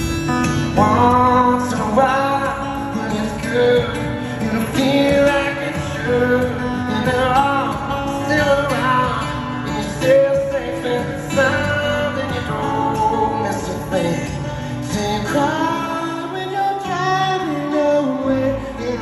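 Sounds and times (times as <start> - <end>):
acoustic guitar: 0.0 - 19.0
man singing: 0.4 - 19.0.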